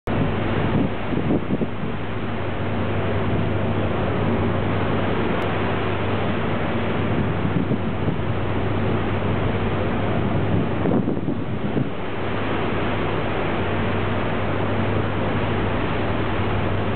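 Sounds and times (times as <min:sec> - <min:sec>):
rushing wind and sea water: 0:00.0 - 0:16.9
ship engines humming: 0:00.1 - 0:16.9
wind buffeting microphone: 0:00.1 - 0:16.9.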